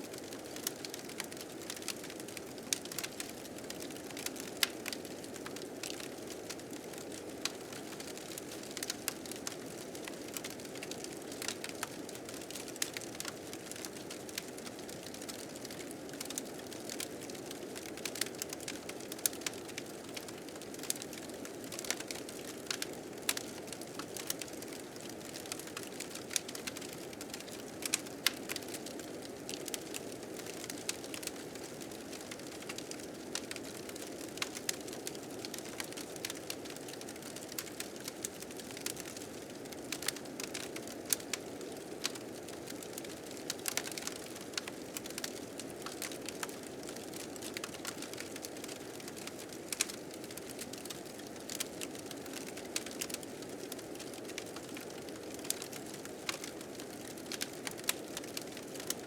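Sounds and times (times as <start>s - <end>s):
wood fire crackling and popping: 0.1s - 59.0s.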